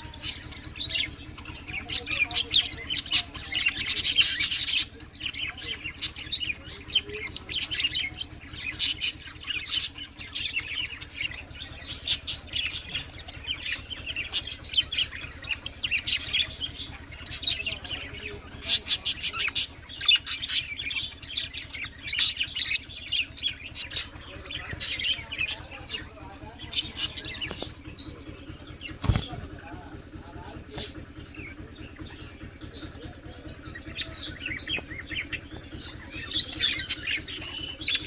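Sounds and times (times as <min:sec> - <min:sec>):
parrots chirping and twittering: 0:00.0 - 0:38.0.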